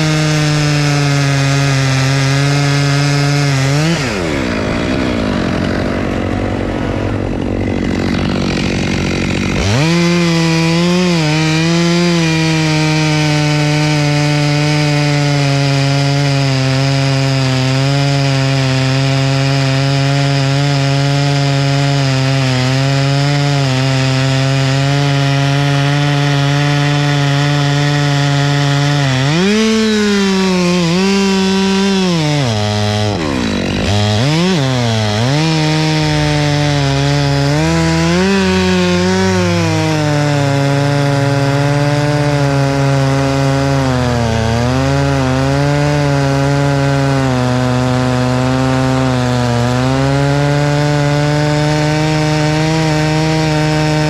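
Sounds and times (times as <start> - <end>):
chainsaw engine running: 0.0 - 54.0.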